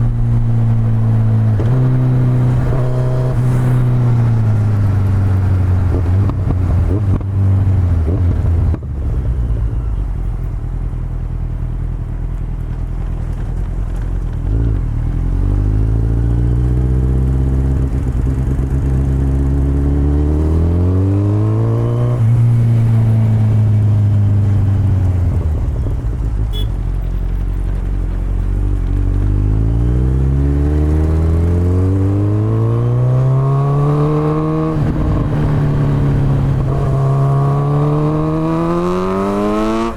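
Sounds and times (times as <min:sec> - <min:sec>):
motorcycle engine revving: 0:00.0 - 0:10.0, 0:14.0 - 0:26.7, 0:28.2 - 0:39.9.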